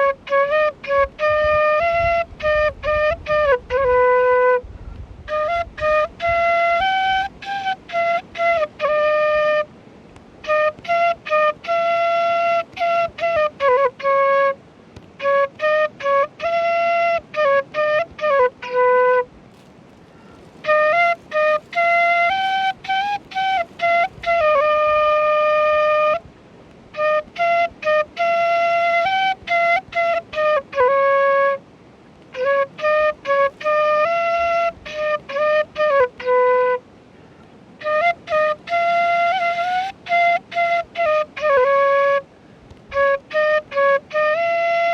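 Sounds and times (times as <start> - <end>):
solo flute melody: 0.0 - 37.0, 37.6 - 44.9.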